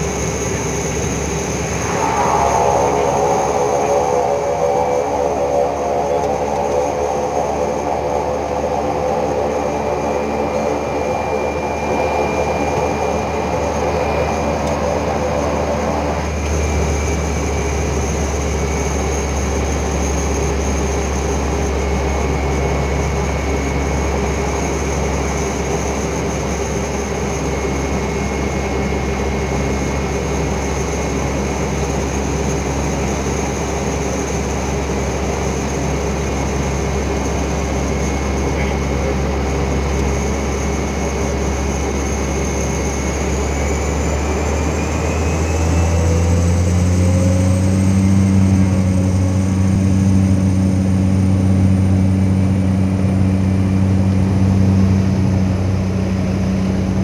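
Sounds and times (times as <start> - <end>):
turboprop engine drone: 0.0 - 57.0.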